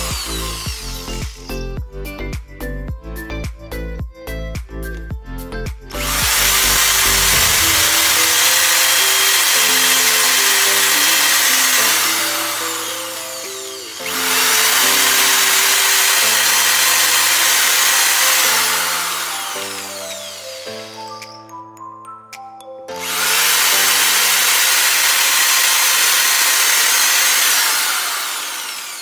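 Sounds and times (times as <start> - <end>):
power drill boring through plastic: 0.0 - 1.8, 5.9 - 21.5, 23.0 - 29.0
background music: 0.0 - 25.3.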